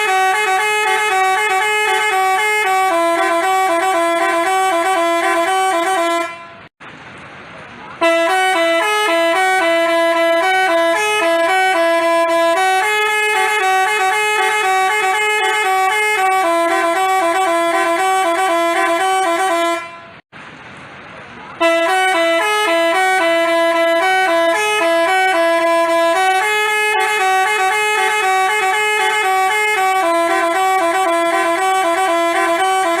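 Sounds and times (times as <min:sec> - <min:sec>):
multi-tone bus horn melody: 0:00.0 - 0:06.7, 0:08.0 - 0:20.2, 0:21.6 - 0:33.0.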